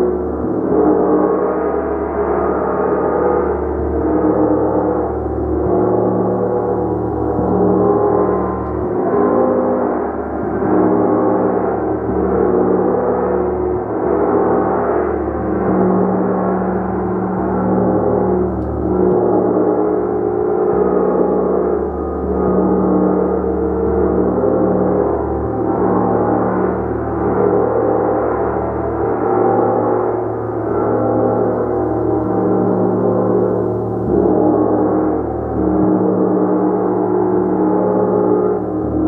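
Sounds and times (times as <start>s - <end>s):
large gong ringing: 0.0s - 39.0s.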